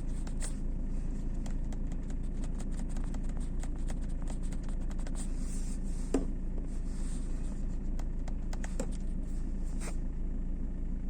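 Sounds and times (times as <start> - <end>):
air heater droning: 0.0 - 11.0.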